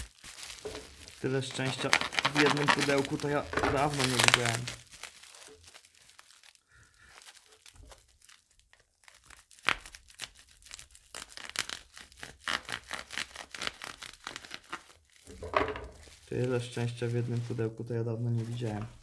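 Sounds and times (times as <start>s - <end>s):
bubble wrap crinkling and crackling: 0.0s - 19.0s.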